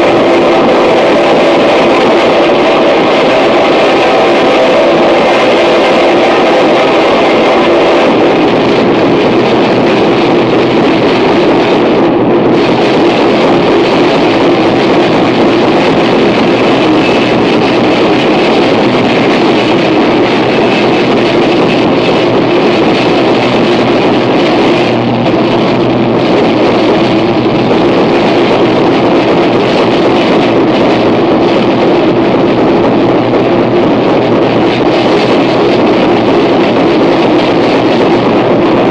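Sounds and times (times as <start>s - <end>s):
harsh noise music: 0.0s - 38.9s.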